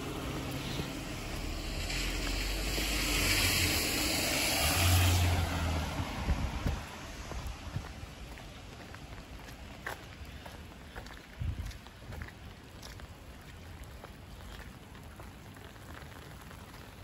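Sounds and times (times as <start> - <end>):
low wind rumble: 0.0 - 14.2
tyres hissing on wet road: 0.0 - 17.0.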